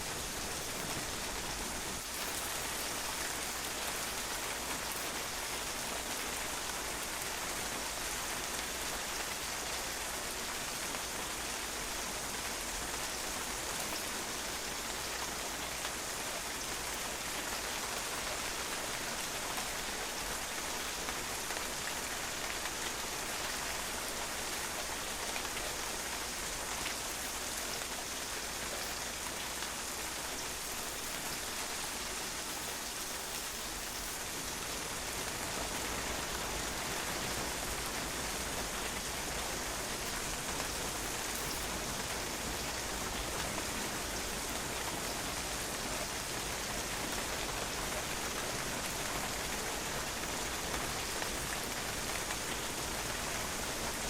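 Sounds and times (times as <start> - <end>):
rain pattering on a patio: 0.0 - 54.0.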